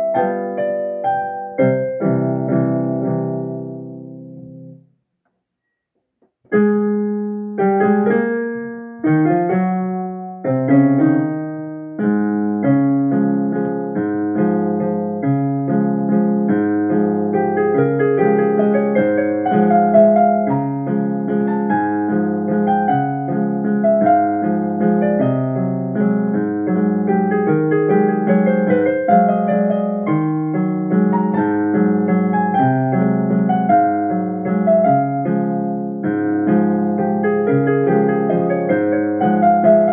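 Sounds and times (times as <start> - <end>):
solo piano piece: 0.0 - 5.0, 6.4 - 39.9.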